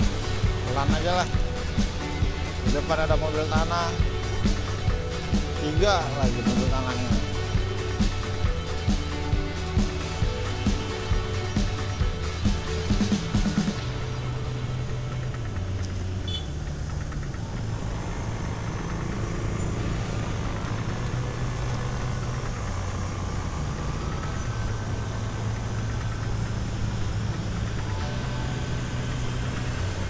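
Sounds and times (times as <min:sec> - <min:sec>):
road and wind noise: 0:00.0 - 0:30.0
scooter engine humming: 0:00.0 - 0:30.0.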